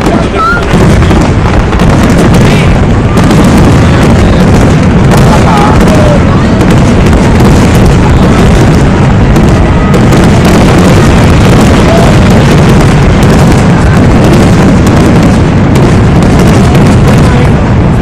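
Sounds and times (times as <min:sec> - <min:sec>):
fireworks barrage: 0:00.0 - 0:18.0.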